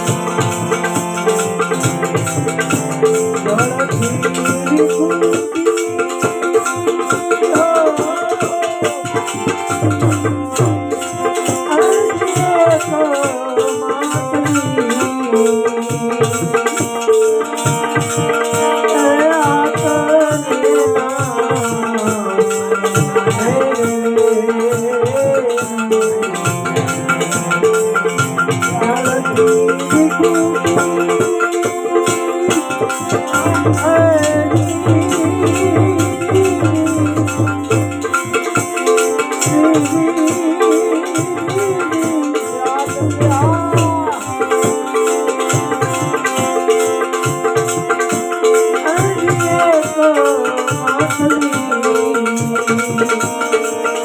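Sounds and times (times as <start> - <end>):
devotional instrumental melody: 0.0 - 54.0
fast rattling percussion beat: 0.0 - 54.0.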